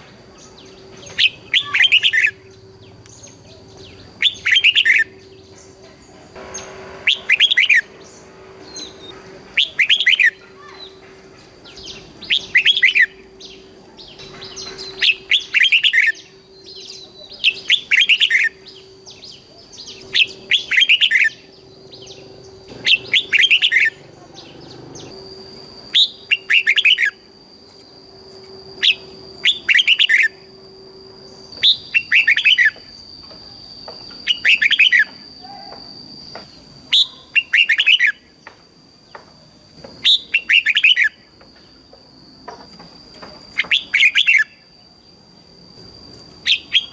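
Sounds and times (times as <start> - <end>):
bulbul singing: 0.0 - 46.9
faint steady high tone: 0.0 - 46.9.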